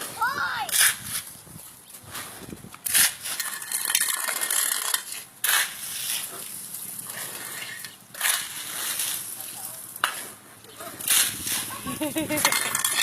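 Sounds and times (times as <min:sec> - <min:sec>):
hard objects clinking and scraping: 0:02.2 - 0:13.0.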